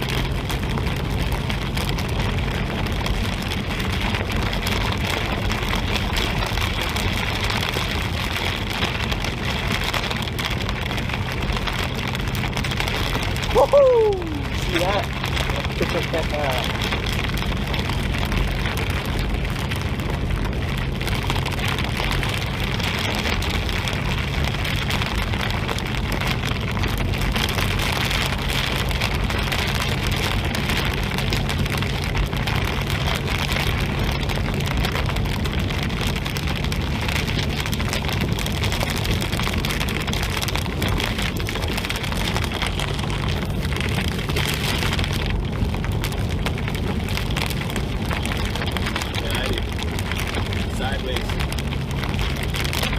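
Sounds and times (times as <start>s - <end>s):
car engine and road hum: 0.0s - 52.9s
heavy rain on car roof: 0.0s - 52.9s.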